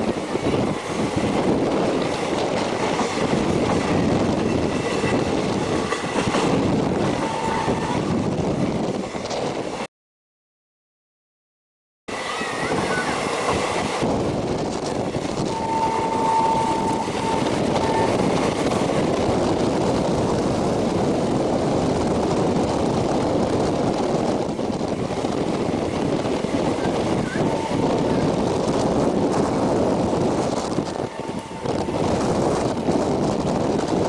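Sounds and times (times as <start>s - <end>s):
train wheels rumbling on rails: 0.0s - 9.9s, 12.1s - 34.0s
wind rushing past microphone: 0.0s - 9.9s, 12.1s - 34.0s.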